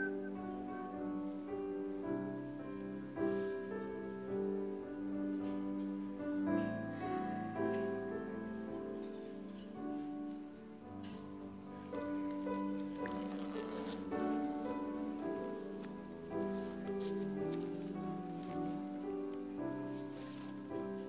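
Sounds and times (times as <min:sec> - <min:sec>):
soft keyboard chords: 0:00.0 - 0:21.0.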